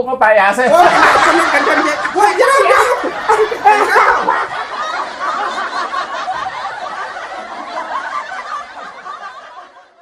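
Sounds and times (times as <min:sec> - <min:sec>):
audience laughing: 0:00.6 - 0:10.0.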